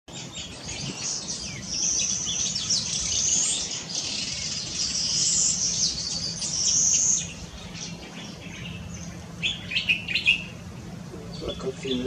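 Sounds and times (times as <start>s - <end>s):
canary singing: 0.1s - 12.0s.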